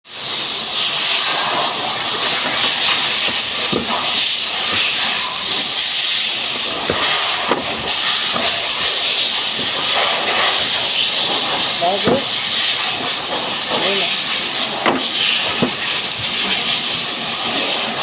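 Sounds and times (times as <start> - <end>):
loud steady hiss: 0.1 - 18.0.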